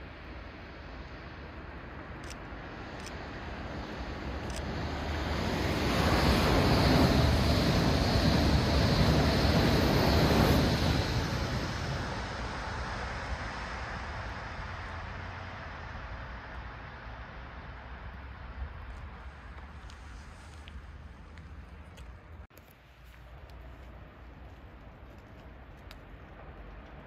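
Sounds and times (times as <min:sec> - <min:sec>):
train passing by: 0:00.0 - 0:22.5.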